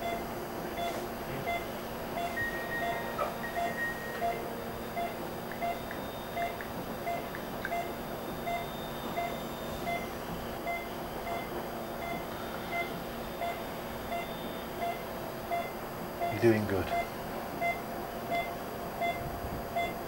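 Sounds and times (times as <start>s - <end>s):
equipment hum: 0.0s - 20.0s
pulse oximeter beeping: 0.8s - 19.2s.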